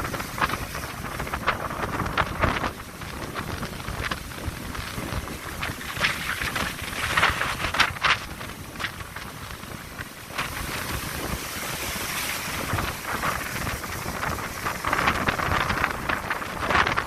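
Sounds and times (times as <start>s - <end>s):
sea waves breaking on shore: 0.0s - 17.0s
wind buffeting microphone: 0.0s - 17.0s.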